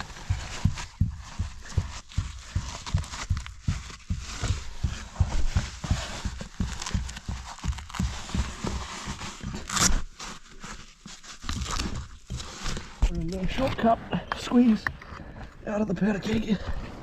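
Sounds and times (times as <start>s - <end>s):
body and gear scraping rock: 0.0s - 17.0s.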